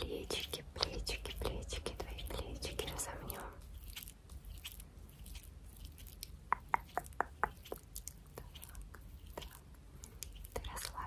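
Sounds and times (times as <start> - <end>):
faint ticks and rustles: 0.0 - 11.0.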